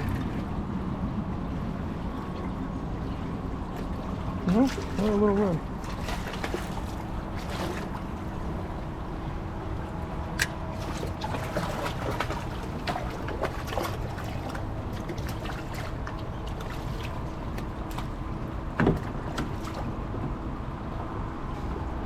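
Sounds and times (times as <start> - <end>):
water lapping around kayak: 0.0 - 22.0.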